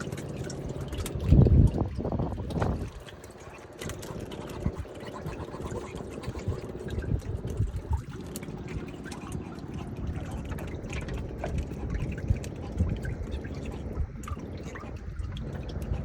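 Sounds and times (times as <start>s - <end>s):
steady low rumble: 0.0s - 16.0s
water splashing and dripping: 0.0s - 16.0s.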